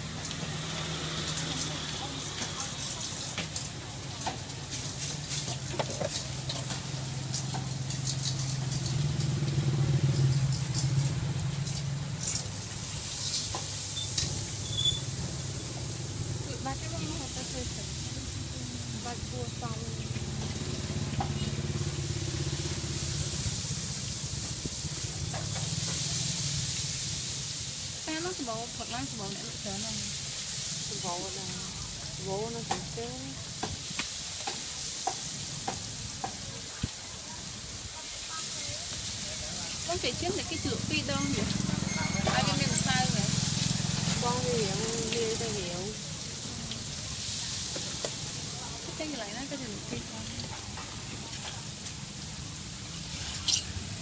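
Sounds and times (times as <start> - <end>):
dough deep-frying in oil: 0.0 - 54.0.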